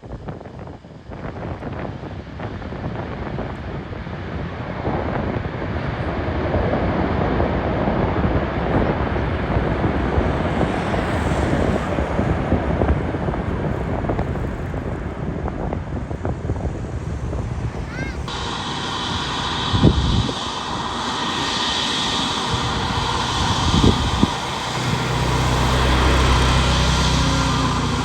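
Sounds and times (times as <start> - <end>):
wind buffeting microphone: 0.0 - 28.0
aircraft rumbling past: 1.0 - 28.0.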